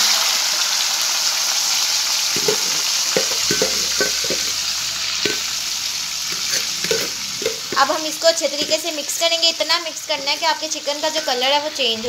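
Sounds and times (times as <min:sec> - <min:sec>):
chicken sizzling in hot fat: 0:00.0 - 0:12.0.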